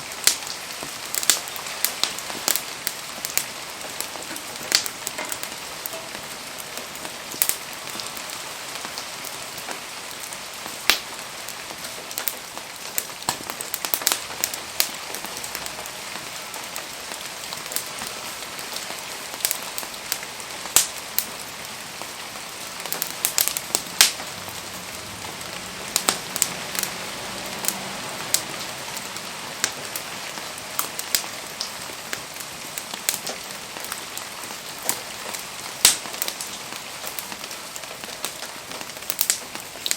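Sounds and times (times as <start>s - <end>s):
rain hissing: 0.0s - 39.9s
wood fire crackling and popping: 0.0s - 39.9s.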